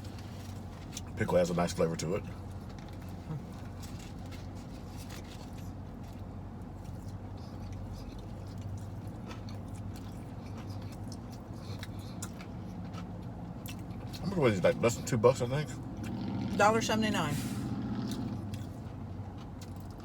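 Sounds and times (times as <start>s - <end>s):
people chewing and crunching: 0.0s - 16.3s, 17.9s - 20.0s.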